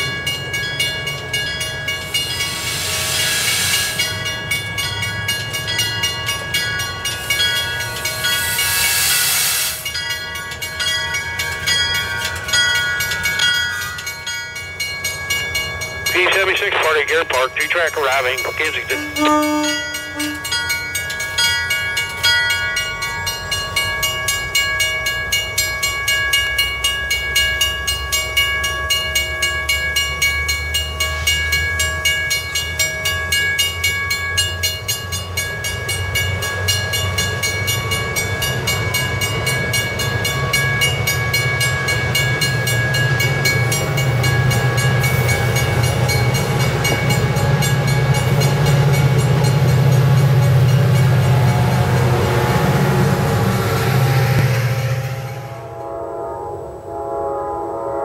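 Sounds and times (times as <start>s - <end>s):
train wheels rumbling on rails: 0.0s - 55.9s
train bell ringing: 0.0s - 56.4s.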